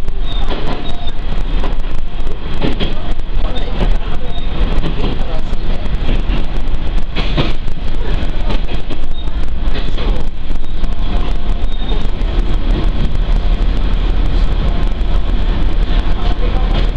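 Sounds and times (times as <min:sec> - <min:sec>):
railcar engine and wheels rumbling: 0:00.0 - 0:16.9
track knocks and rattles: 0:00.0 - 0:16.9.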